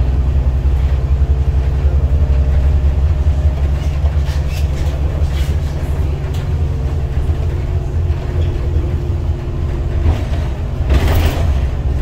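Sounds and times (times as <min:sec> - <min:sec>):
bus engine drone inside cabin: 0:00.0 - 0:12.0.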